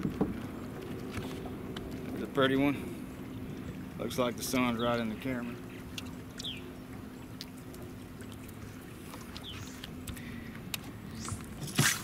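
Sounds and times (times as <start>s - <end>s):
water lapping against hull: 0.0s - 12.0s
faint hum: 0.4s - 12.0s.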